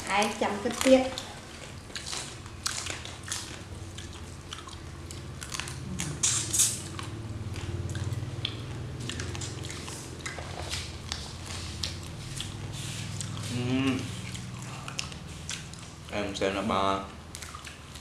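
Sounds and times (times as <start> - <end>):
wet chewing and smacking: 0.0 - 16.4, 17.1 - 18.0.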